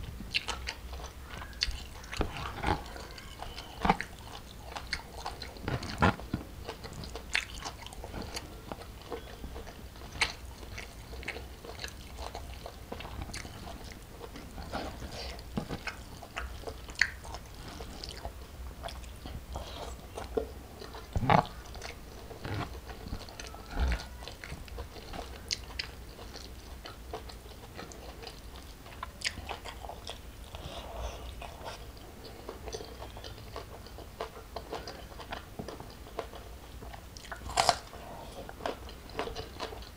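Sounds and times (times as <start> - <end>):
close chewing and crunching: 0.0 - 39.9.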